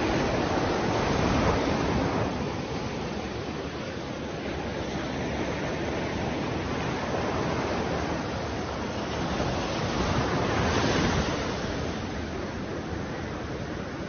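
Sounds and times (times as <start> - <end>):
sea surf breaking on beach: 0.0 - 14.0.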